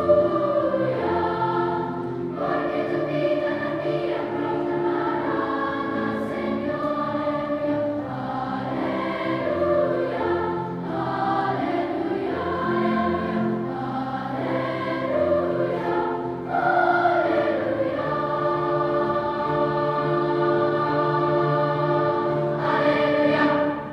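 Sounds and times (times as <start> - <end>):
children's choir singing: 0.0 - 23.9.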